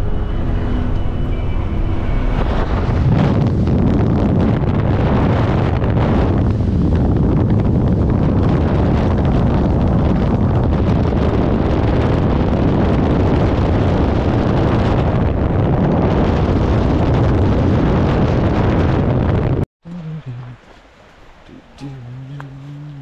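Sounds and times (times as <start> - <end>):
wind buffeting microphone: 0.0 - 19.7.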